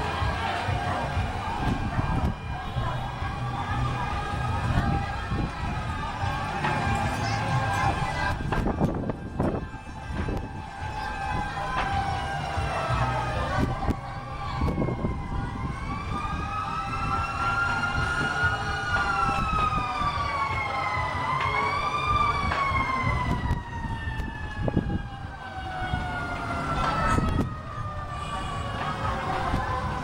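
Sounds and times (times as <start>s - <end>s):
fire truck sirens wailing: 0.0s - 30.0s.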